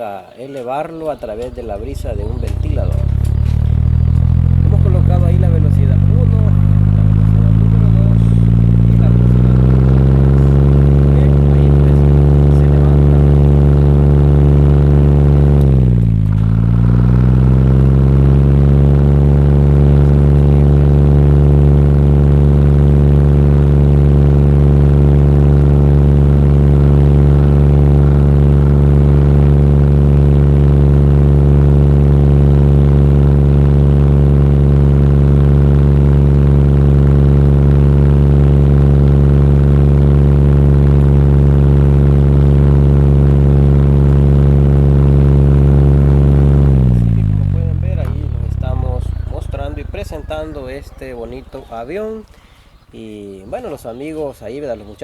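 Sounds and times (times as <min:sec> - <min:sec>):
electric fan loud drone: 0:00.9 - 0:53.0.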